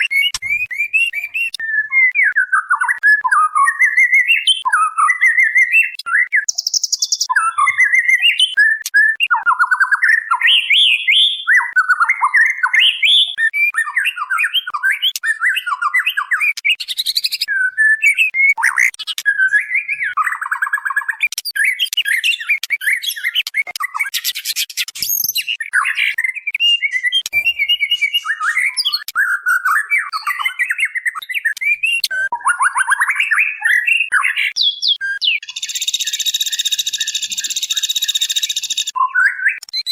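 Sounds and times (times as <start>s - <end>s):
bird chattering and trilling: 0.0s - 39.9s.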